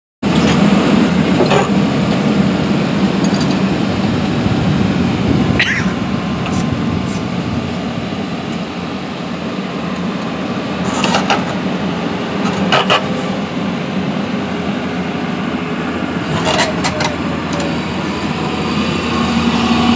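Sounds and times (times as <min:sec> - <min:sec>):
excavator engine rumbling: 0:00.2 - 0:19.9.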